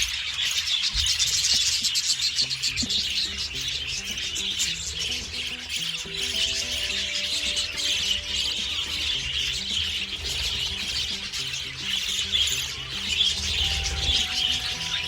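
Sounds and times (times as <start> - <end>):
background music of low notes: 0.0 - 15.0
budgerigars chattering and chirping: 0.0 - 15.0.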